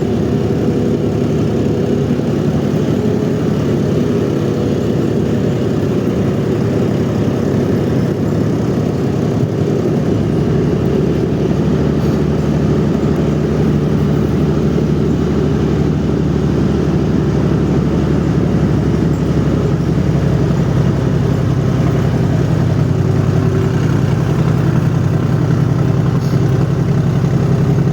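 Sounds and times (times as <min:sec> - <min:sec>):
engine running low hum: 0:00.0 - 0:27.9.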